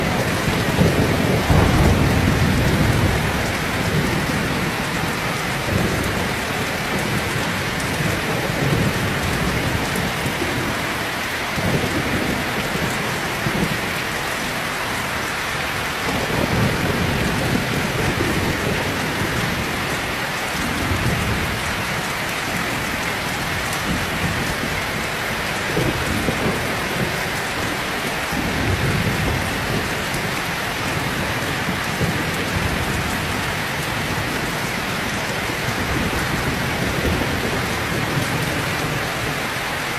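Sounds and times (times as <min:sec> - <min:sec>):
rolling thunder rumbling: 0:00.0 - 0:39.5
heavy rain pouring: 0:00.0 - 0:39.9.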